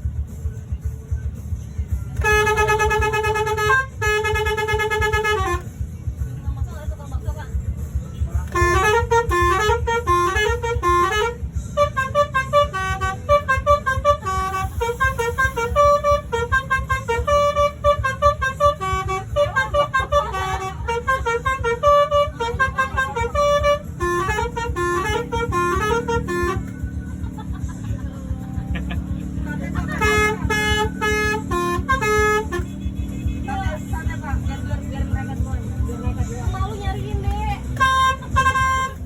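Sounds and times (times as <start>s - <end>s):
bus engine rumble: 0.0s - 39.0s
musical bus horn tune: 0.0s - 39.0s.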